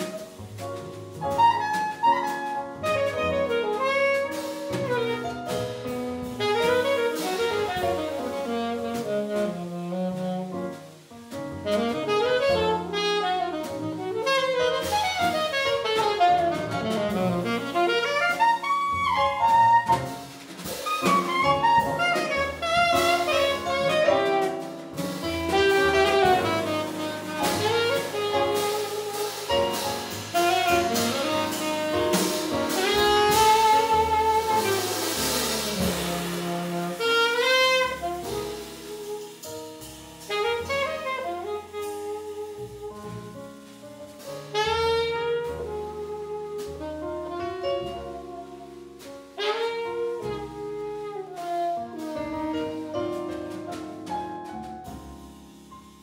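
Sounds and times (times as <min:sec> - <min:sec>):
drum kit with cymbals: 0:00.0 - 0:56.0
upright double bass: 0:00.0 - 0:56.0
saxophone melody: 0:01.2 - 0:11.0, 0:11.6 - 0:39.6, 0:40.2 - 0:43.7, 0:44.4 - 0:54.3.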